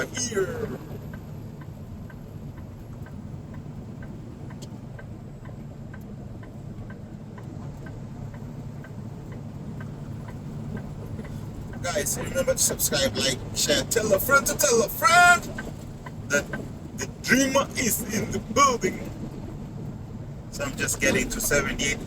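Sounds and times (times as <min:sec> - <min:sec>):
truck engine drone: 0:00.0 - 0:22.0
turn signal ticking: 0:00.0 - 0:22.0.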